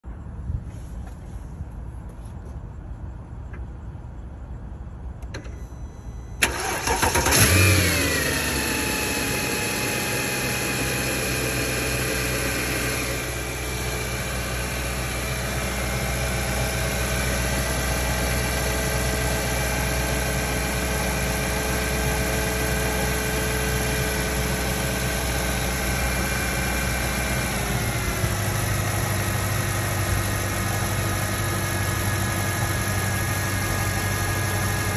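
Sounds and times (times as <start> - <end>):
car engine starting and idling: 5.0 - 34.9.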